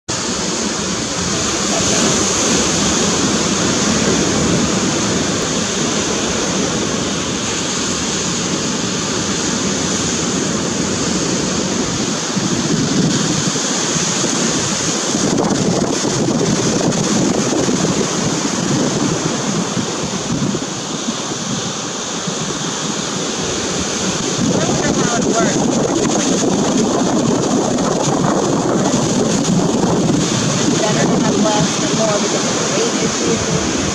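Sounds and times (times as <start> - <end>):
sea and surf rushing: 0.0 - 33.9
wind gusting on microphone: 0.1 - 33.9.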